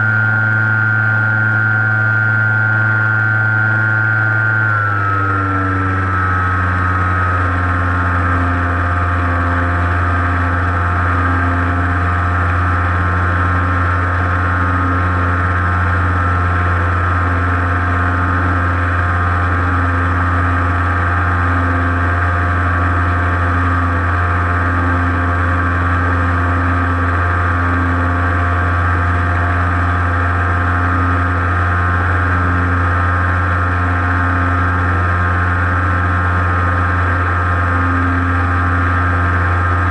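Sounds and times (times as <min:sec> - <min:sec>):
model airplane motor running: 0:00.0 - 0:39.9.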